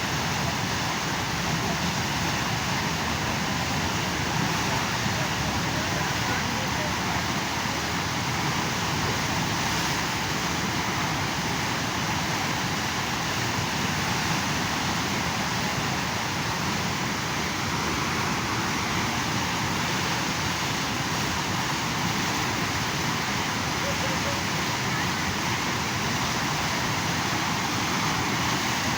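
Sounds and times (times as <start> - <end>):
river water rushing: 0.0 - 28.9.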